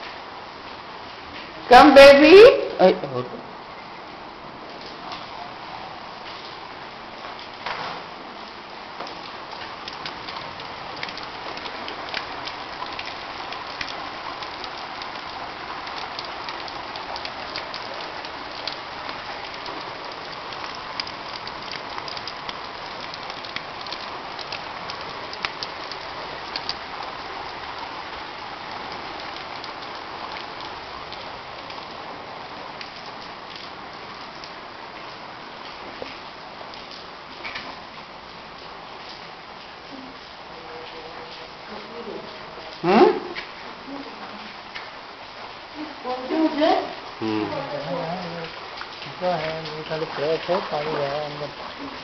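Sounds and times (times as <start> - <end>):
water rushing: 1.6 - 52.0.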